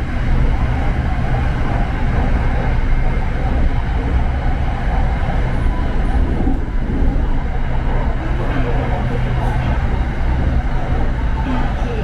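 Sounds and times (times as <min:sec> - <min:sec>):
rumble of train wheels on rail: 0:00.0 - 0:12.0.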